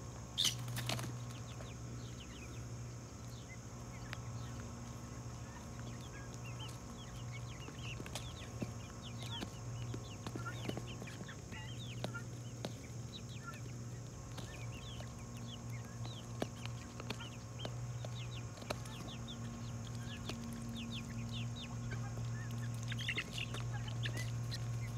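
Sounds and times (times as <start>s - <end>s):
steady low hum: 0.0s - 24.9s
chicks and ducks chirping: 0.1s - 24.9s.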